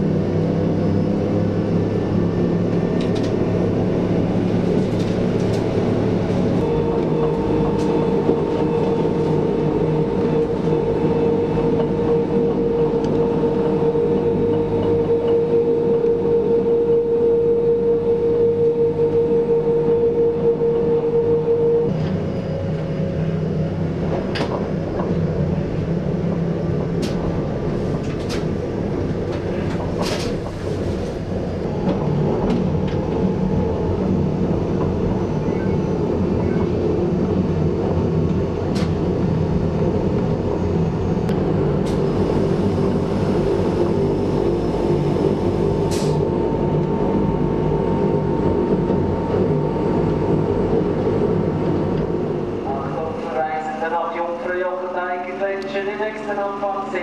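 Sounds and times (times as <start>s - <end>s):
train motor hum and whine: 0.0s - 57.0s.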